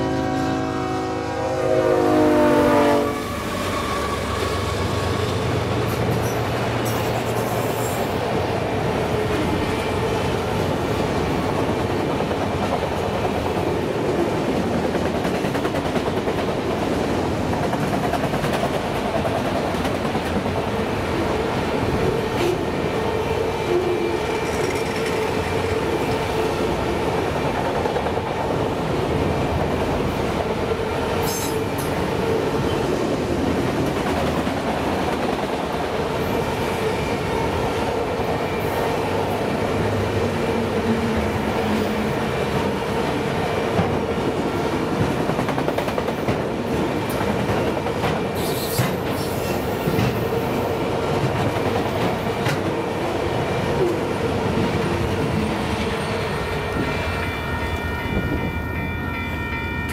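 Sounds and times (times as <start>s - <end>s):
freight train wheels rumbling: 1.6s - 59.9s.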